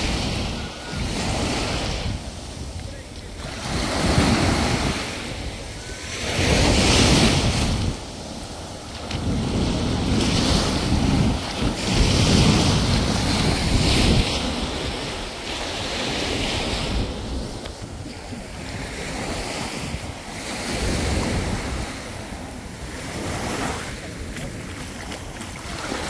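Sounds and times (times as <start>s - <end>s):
small waves washing on beach: 0.0s - 26.0s
wind gusting on microphone: 0.0s - 26.0s.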